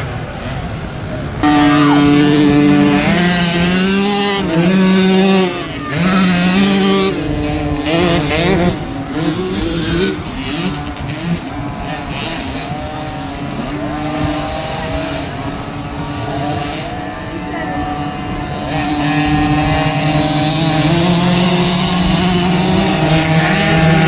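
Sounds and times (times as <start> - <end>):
dirt bike engine revving: 0.0 - 24.0
other dirt bikes racing: 0.0 - 24.0.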